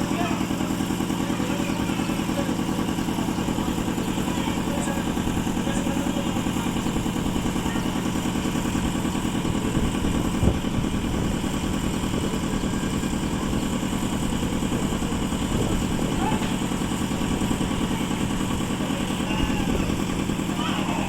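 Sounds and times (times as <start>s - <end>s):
concrete mixer engine running: 0.0s - 21.0s.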